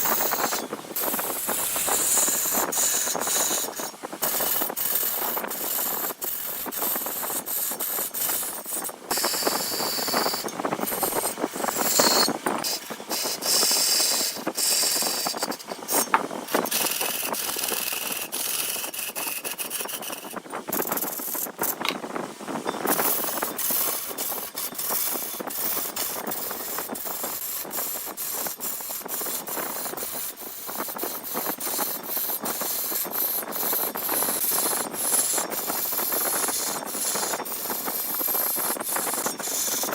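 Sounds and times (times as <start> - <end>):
lathe tool scraping wood: 0.0 - 39.9.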